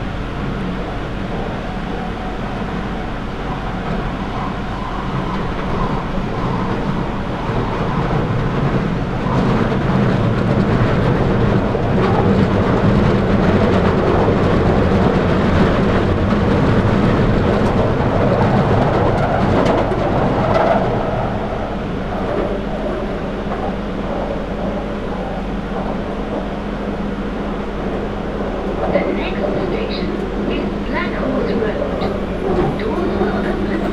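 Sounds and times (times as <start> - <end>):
train running noise: 0.0 - 33.9.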